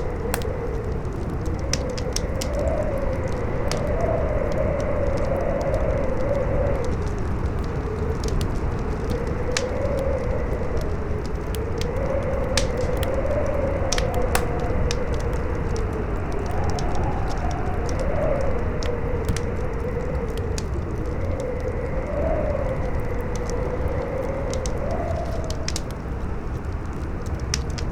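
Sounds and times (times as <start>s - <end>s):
howling wind whistling: 0.0s - 27.2s
campfire crackling and popping: 0.0s - 27.9s.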